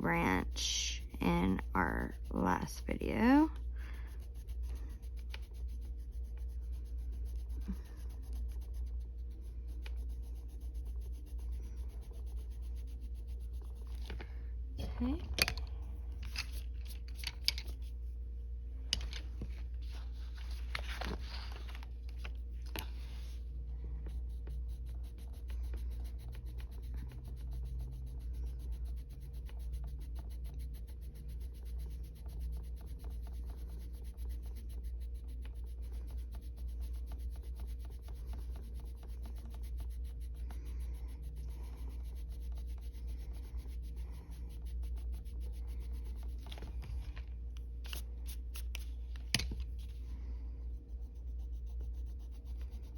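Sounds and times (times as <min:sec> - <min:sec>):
pencil scratching on paper: 0:00.0 - 0:14.4, 0:19.8 - 0:52.9
steady low hum: 0:00.0 - 0:52.9.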